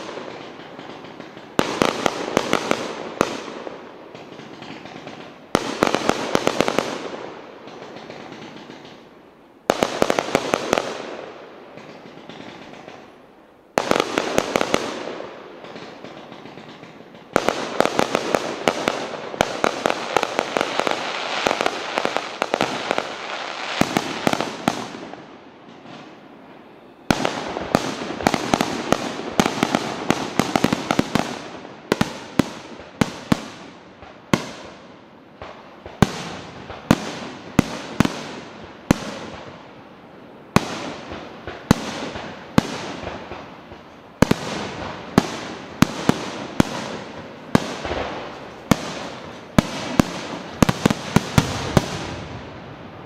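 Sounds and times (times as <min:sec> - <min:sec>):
firework crackle: 0:00.0 - 0:53.0.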